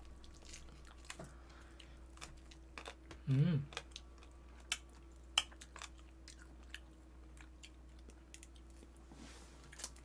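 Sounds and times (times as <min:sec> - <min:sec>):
people chewing food: 0:00.0 - 0:10.0.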